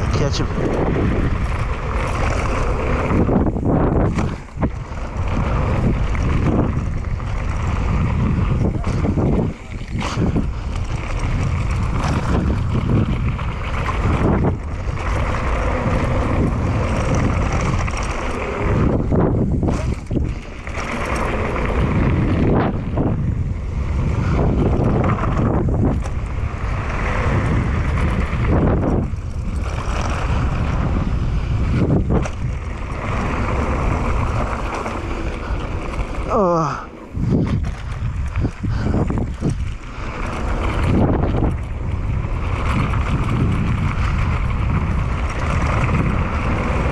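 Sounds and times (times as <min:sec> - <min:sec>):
mountain bike rattling on dirt trail: 0:00.0 - 0:46.9
wind buffeting microphone: 0:00.0 - 0:46.9.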